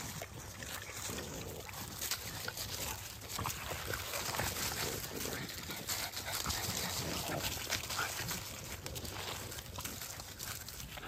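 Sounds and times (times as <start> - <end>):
dry leaves rustling and crackling: 0.0 - 11.0.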